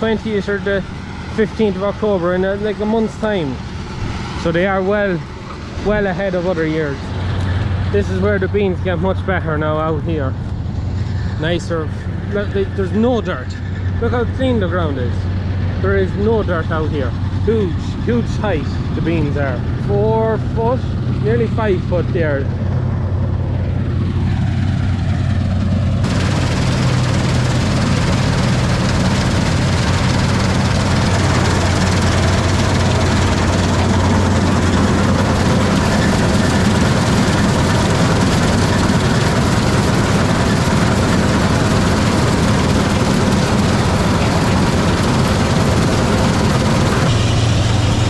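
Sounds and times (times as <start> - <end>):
deep diesel engine drone: 0.0 - 48.0
wide mechanical rush: 0.0 - 48.0.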